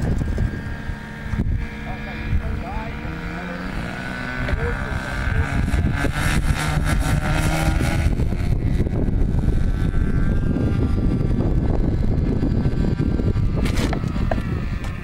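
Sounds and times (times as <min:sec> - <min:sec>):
model plane engine at full throttle: 0:00.0 - 0:15.0
wind rumble on microphone: 0:00.0 - 0:15.0.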